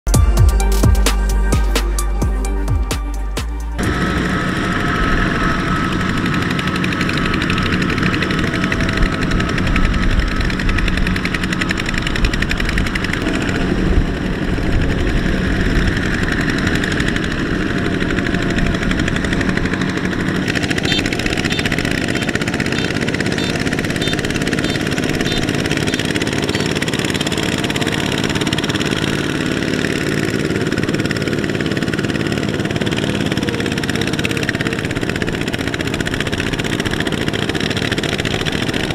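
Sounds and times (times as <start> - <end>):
diesel tiller engine running: 0.1 - 38.9.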